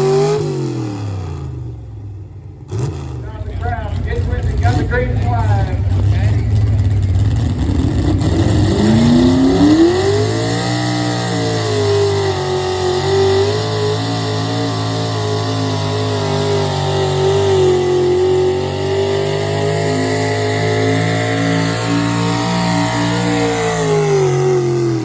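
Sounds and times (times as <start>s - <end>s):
engine revving under load: 0.0s - 25.0s.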